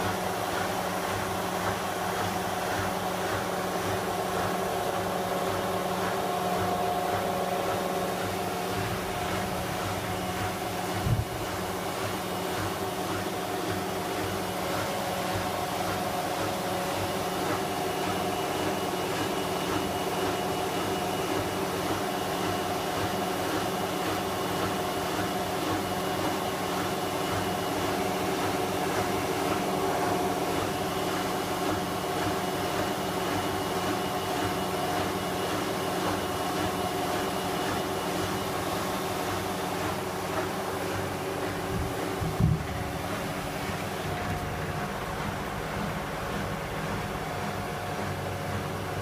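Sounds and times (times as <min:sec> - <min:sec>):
washer drum spinning hum and whine: 0:00.0 - 0:49.0.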